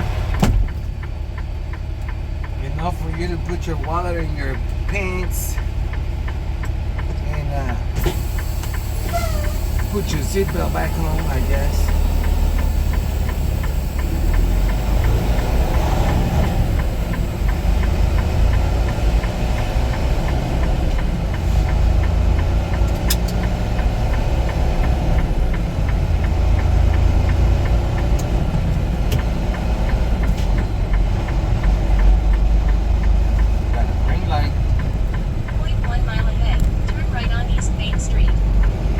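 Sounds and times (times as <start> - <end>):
diesel engine rumbling: 0.0 - 38.9
light ticking: 0.3 - 38.9.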